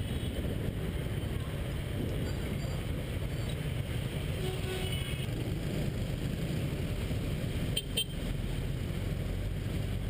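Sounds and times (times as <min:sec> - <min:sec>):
traffic and road noise: 0:00.0 - 0:10.0.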